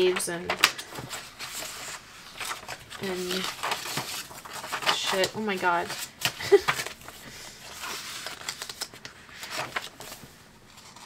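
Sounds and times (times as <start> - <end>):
paper pages being flipped: 0.0 - 11.0.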